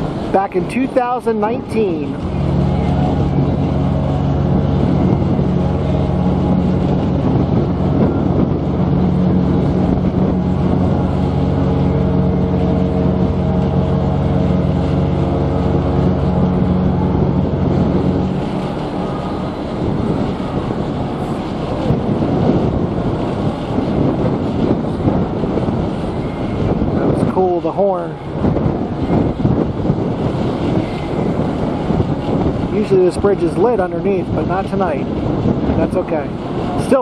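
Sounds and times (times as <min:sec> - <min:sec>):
ship's horn low blast: 0:00.0 - 0:37.0
wind noise on microphone: 0:00.0 - 0:37.0.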